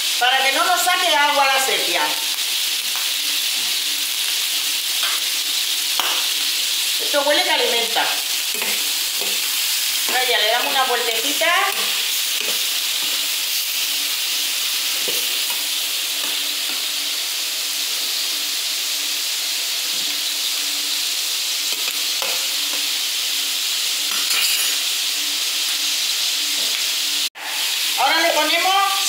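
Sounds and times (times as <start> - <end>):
seafood sizzling in hot oil: 0.0 - 29.0.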